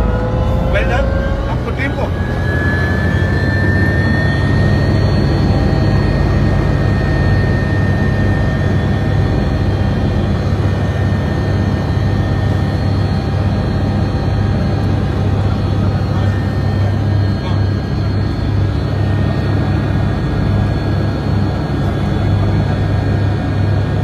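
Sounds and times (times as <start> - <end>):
helicopter drone and turbine whine: 0.0 - 24.0.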